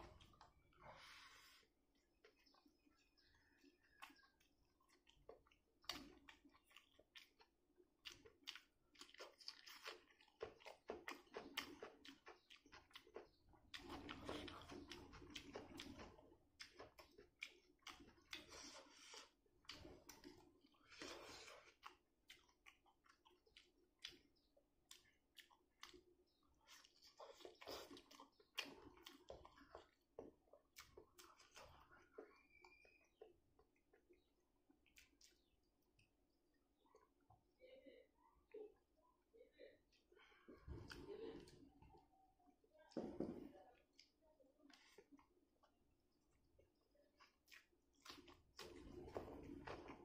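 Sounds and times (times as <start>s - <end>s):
person chewing food: 0.0s - 37.6s, 39.9s - 42.1s, 42.8s - 50.0s.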